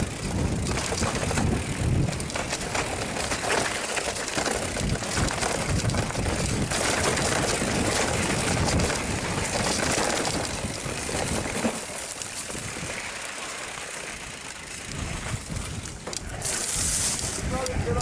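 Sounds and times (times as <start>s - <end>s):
wind buffeting microphone: 0.0s - 3.5s, 4.4s - 11.7s, 14.3s - 18.0s
bike clattering and knocking: 0.0s - 18.0s
tyres on dirt and stones: 0.0s - 18.0s.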